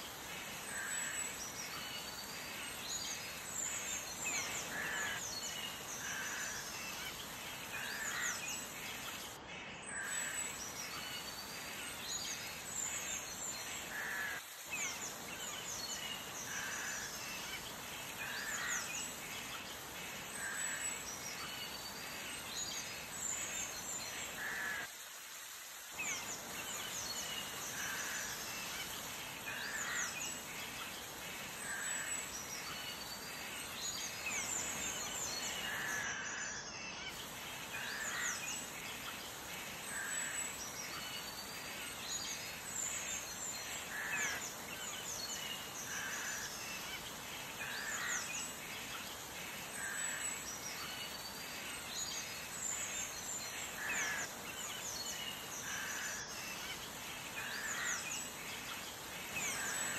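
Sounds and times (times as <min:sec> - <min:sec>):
steady outdoor hiss: 0:00.0 - 0:59.9
birds calling and chirping: 0:00.2 - 0:24.9, 0:26.0 - 0:59.9.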